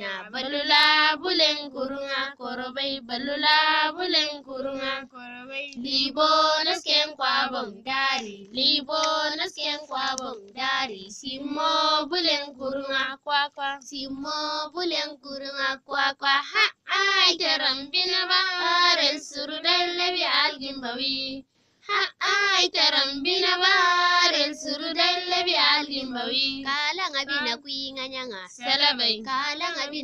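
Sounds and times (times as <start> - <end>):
high voice singing alone: 0.0 - 30.0.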